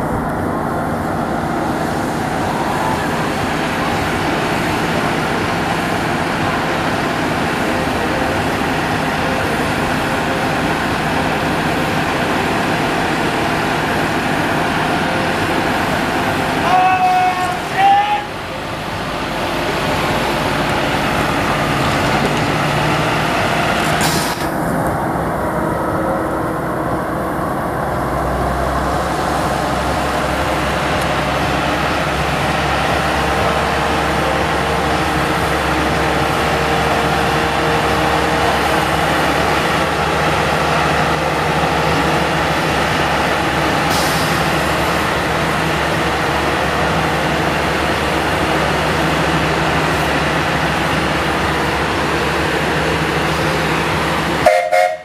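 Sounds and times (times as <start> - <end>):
train engine drone and hiss: 0.0 - 55.0.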